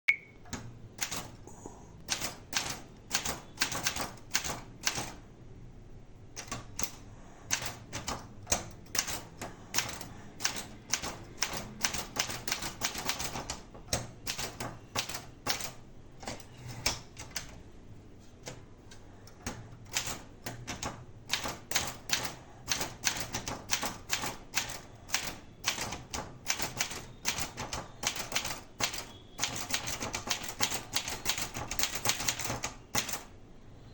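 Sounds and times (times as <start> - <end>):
typewriter key strikes: 0.4 - 1.4, 2.1 - 5.2, 6.4 - 17.6, 19.4 - 33.3.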